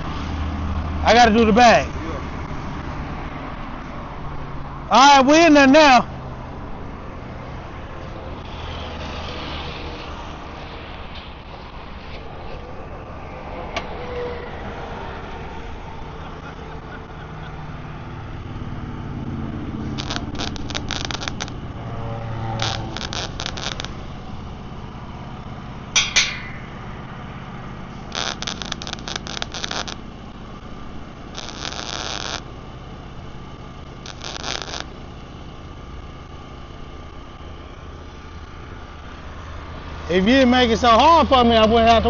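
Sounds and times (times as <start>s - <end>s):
low engine hum: 6.0s - 42.0s
arc welding crackling: 7.6s - 42.0s.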